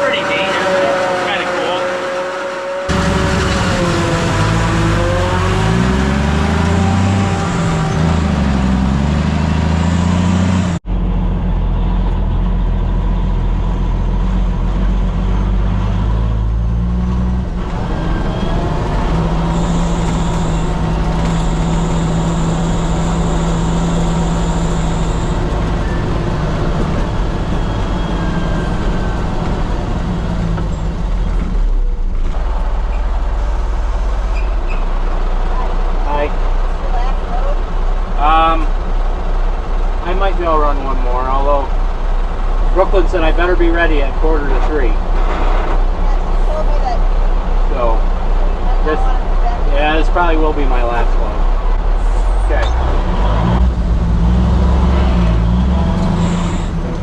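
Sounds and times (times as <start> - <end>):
farm machinery engine running: 0.0 - 57.0.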